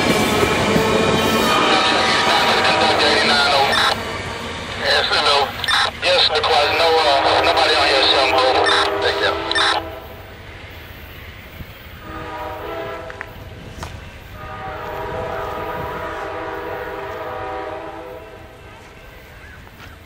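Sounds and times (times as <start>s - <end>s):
low rumble of receding train: 0.0s - 20.0s
distant train horn blasts: 0.4s - 5.5s, 6.5s - 10.4s, 12.0s - 19.4s.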